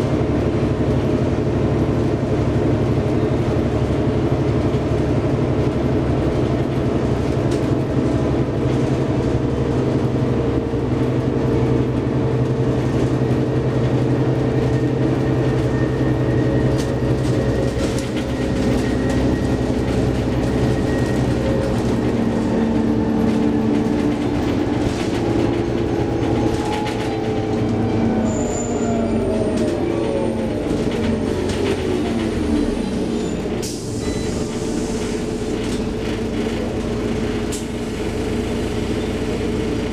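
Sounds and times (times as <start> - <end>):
bus engine hum from inside: 0.0 - 39.9.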